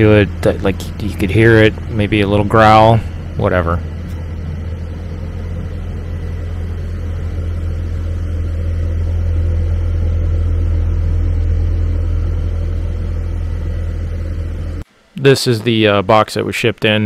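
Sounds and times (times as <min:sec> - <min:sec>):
car exhaust low drone: 0:00.0 - 0:14.9.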